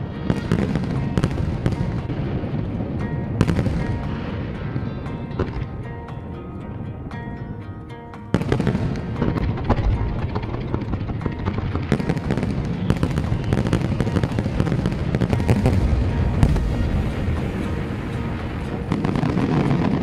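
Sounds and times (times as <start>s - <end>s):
fireworks bangs and crackles: 0.0s - 6.3s, 8.3s - 20.0s
soft background music: 0.0s - 20.0s.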